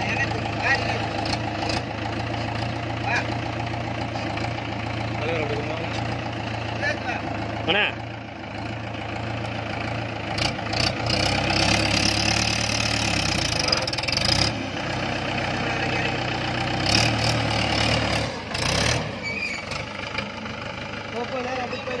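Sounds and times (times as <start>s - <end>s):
diesel engine revving: 0.0s - 22.0s.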